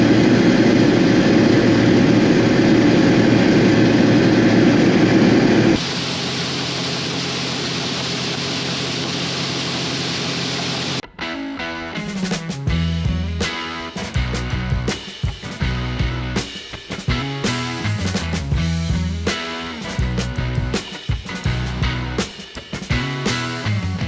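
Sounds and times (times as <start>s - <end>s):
machinery engine running: 0.0s - 11.0s, 12.7s - 24.0s.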